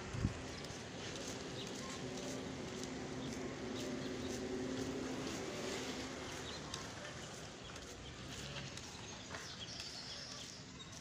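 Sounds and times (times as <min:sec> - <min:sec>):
engine hum: 0:00.0 - 0:09.6.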